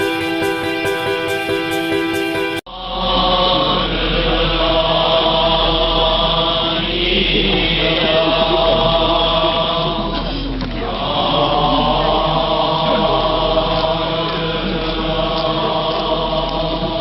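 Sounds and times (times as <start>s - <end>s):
background music: 0.0s - 17.0s
low hum: 2.7s - 17.0s
sutra chanting: 2.7s - 17.0s.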